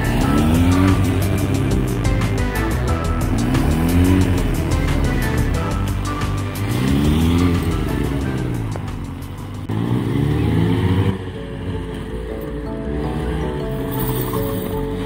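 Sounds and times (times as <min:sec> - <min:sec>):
motorcycle engine revving: 0:00.0 - 0:15.0
music: 0:00.0 - 0:15.0.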